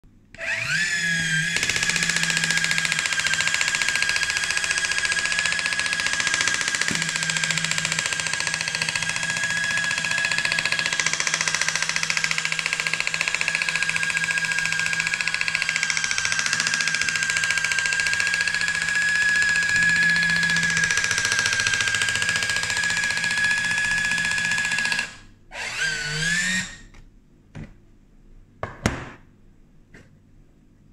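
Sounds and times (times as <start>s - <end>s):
electric can opener whine: 0.4s - 27.0s.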